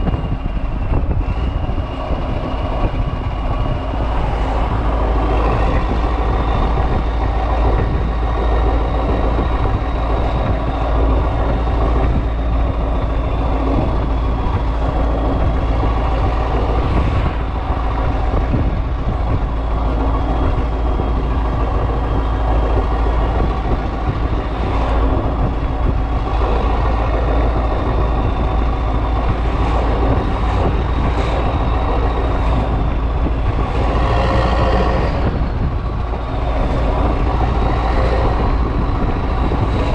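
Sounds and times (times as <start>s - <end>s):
diesel truck engine on open exhaust: 0.0s - 39.9s.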